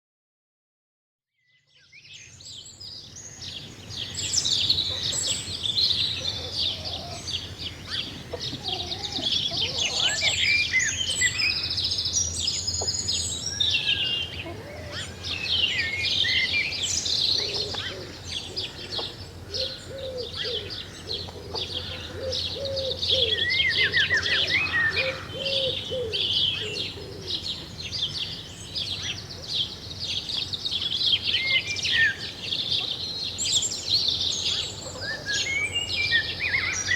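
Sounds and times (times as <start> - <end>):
songbirds chirping and trilling: 1.6 - 36.9.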